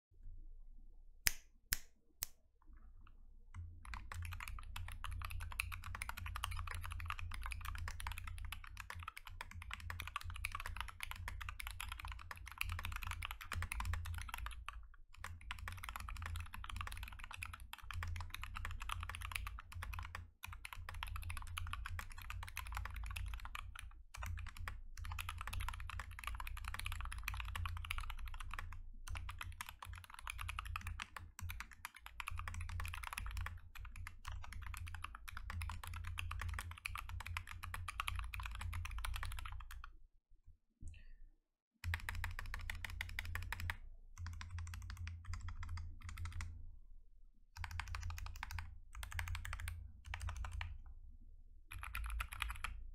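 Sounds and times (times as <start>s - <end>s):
mechanical keyboard typing: 3.8s - 39.9s, 41.8s - 46.5s, 47.6s - 50.8s, 51.7s - 52.8s.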